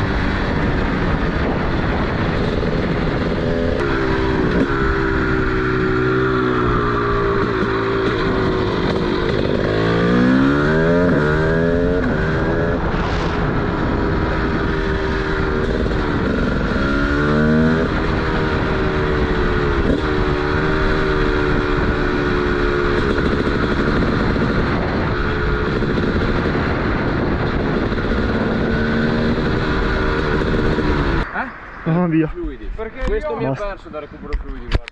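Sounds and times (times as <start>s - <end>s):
two-stroke motorcycle engine revving: 0.0s - 31.3s.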